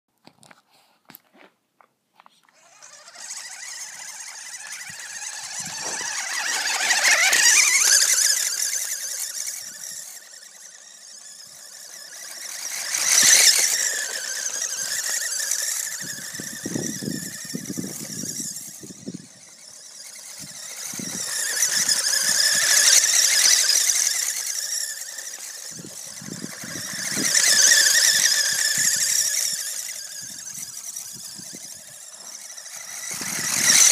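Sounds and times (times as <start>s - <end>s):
electric motor whining high pitch: 2.5s - 33.9s.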